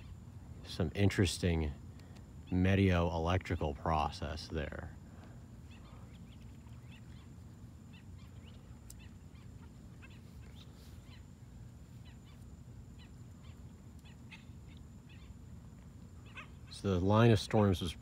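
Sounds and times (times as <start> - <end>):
low steady rumble: 0.0 - 18.0
night animals chirping: 0.0 - 18.0.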